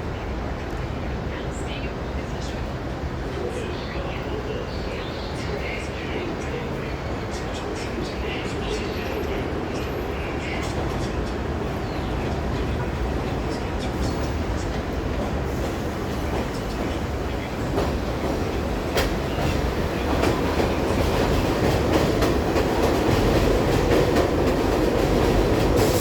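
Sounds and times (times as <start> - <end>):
subway train wheels clacking: 0.0 - 26.0.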